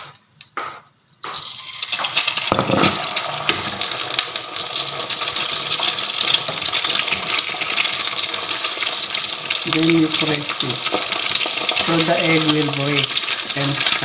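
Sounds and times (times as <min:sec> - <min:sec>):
egg sizzling in hot oil: 0:01.4 - 0:14.0.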